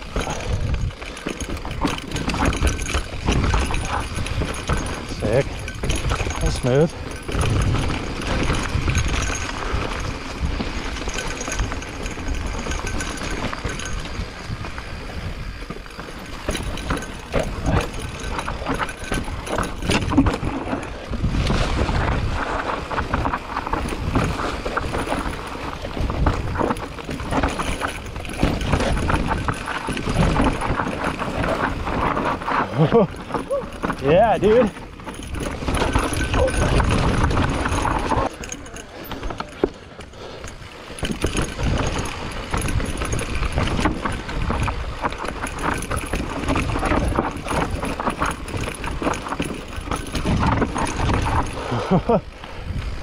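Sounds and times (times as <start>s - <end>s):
bike frame and chain rattling: 0.0s - 53.0s
bike tyres rolling over dirt: 0.0s - 53.0s
wind rumble on microphone: 0.0s - 53.0s.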